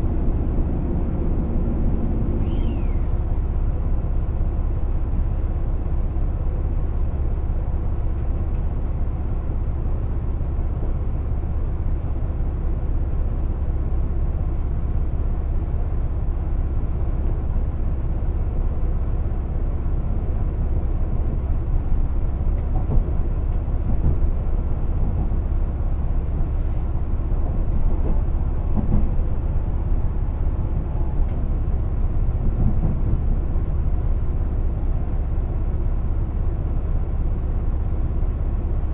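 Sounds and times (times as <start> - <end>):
train rumbling from inside: 0.0 - 38.9.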